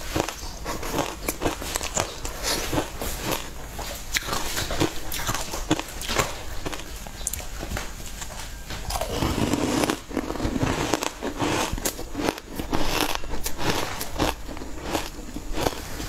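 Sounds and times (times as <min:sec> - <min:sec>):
crunchy biting and chewing: 0:00.0 - 0:16.0.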